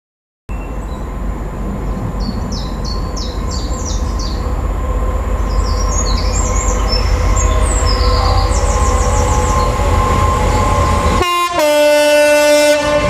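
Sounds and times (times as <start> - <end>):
songbird chirping: 0.5 - 11.2
diesel locomotive engine rumble: 0.5 - 13.0.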